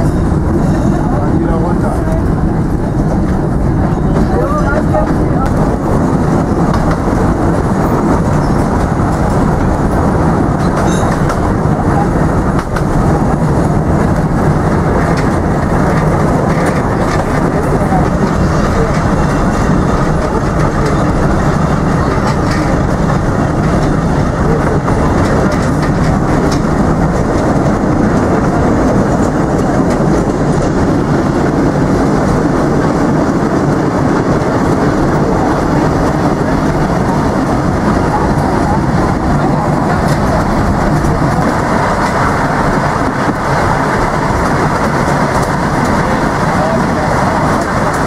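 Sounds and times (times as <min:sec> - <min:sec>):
train wheels rumbling on track: 0:00.0 - 0:48.0.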